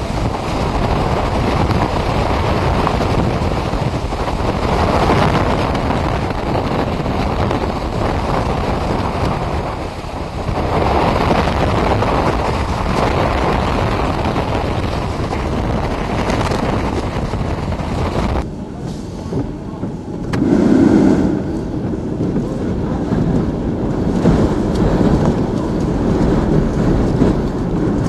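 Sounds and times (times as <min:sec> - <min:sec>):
strong wind blowing: 0:00.0 - 0:28.0
wind-driven rain: 0:00.0 - 0:28.0.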